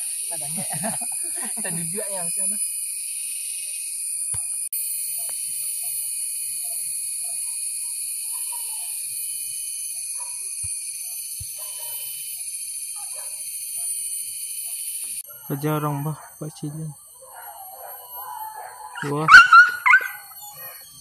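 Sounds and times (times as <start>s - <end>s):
insects droning in chorus: 0.0s - 21.0s.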